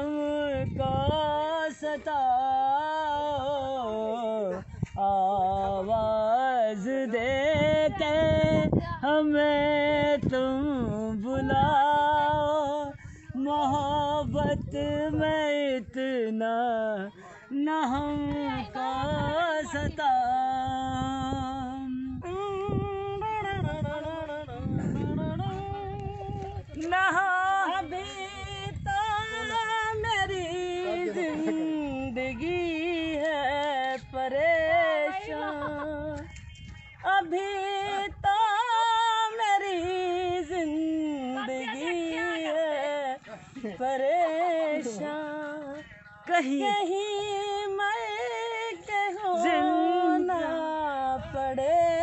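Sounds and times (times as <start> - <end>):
woman singing unaccompanied: 0.0 - 52.0.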